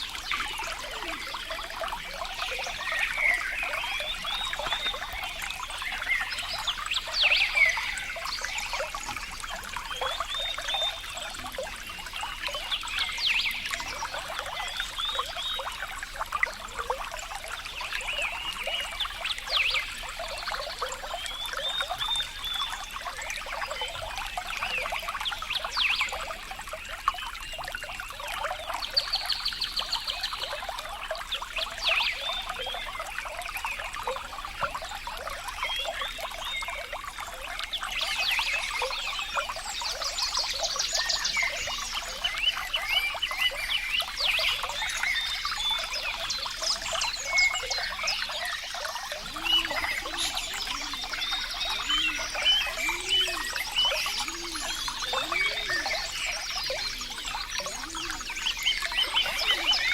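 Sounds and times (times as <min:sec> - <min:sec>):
water trickling and dripping: 0:00.0 - 0:59.9.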